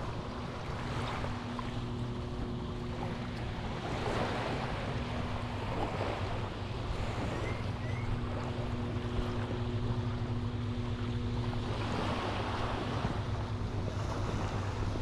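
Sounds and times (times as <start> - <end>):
steady low hum: 0.0 - 15.0
wind on microphone: 0.0 - 15.0.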